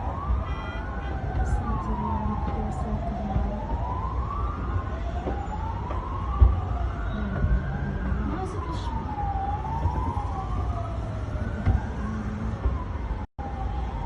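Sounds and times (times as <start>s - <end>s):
emergency vehicle sirens wailing: 0.0s - 14.0s.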